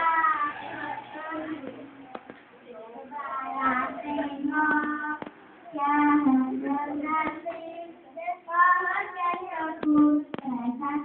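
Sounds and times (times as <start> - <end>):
girl singing: 0.0 - 11.0.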